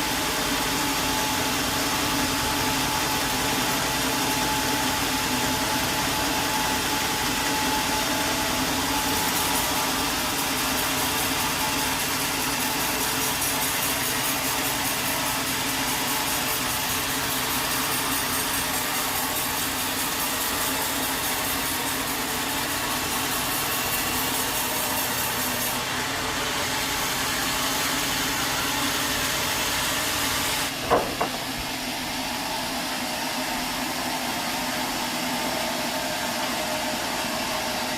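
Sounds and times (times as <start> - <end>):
sawmill machinery running: 0.0 - 37.9.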